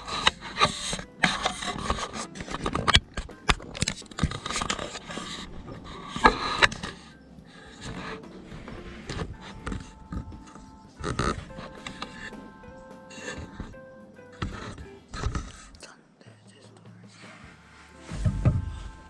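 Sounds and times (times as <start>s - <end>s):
knocks and clicks: 0.0s - 15.8s
scraping: 0.0s - 15.9s, 17.1s - 19.0s.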